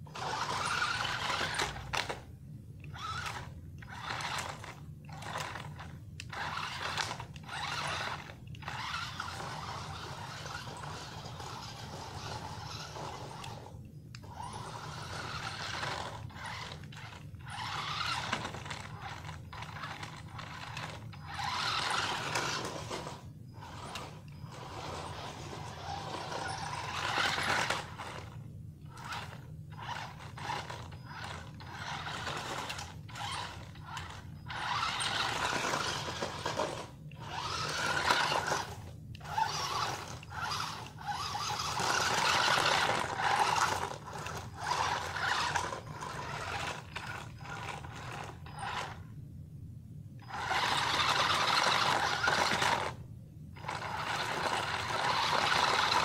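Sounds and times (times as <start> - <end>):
electric motors whirring: 0.0 - 49.2, 50.2 - 53.0, 53.6 - 56.0.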